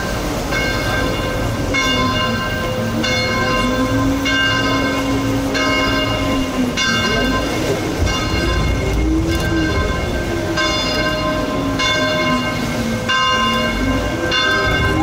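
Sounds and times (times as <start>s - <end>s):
boat engine hum: 0.0s - 15.0s
church bells ringing: 0.0s - 15.0s.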